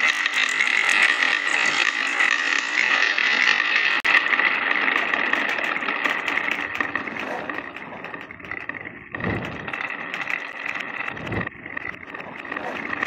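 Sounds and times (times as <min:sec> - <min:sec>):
glass marbles clattering on wood: 0:00.0 - 0:13.0.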